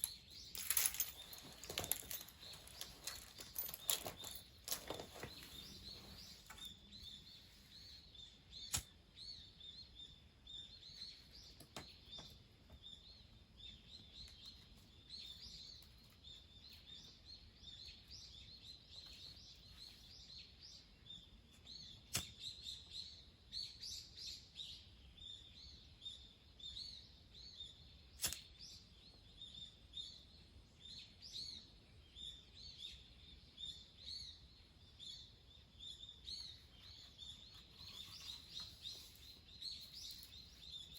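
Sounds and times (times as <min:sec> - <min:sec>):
faint birds chirping: 0:00.0 - 0:40.9.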